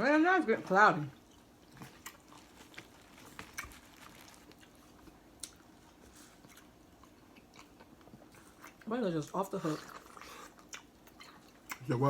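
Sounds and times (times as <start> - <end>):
chewing with wet clicks: 1.2 - 8.9, 9.8 - 12.0.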